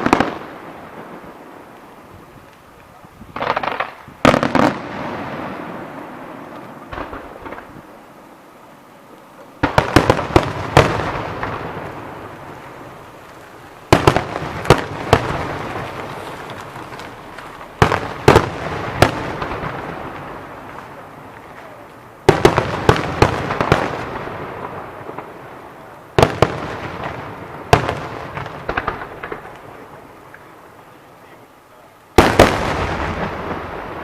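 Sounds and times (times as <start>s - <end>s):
fireworks bangs echoing: 0.0s - 8.4s, 9.4s - 31.5s, 32.1s - 34.0s.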